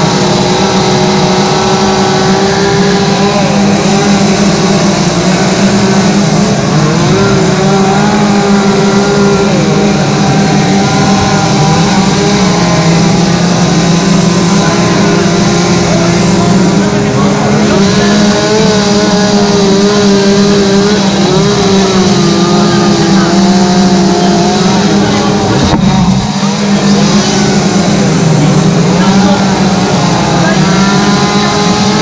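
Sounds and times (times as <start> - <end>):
chainsaw carving wood: 0.0 - 32.0
other chainsaws running: 0.0 - 32.0.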